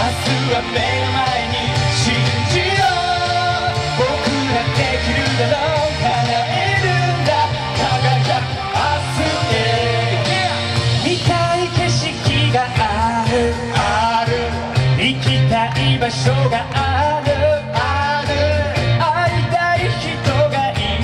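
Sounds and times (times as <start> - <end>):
loud pop-rock backing music: 0.0 - 21.0
men singing into microphones: 0.0 - 21.0.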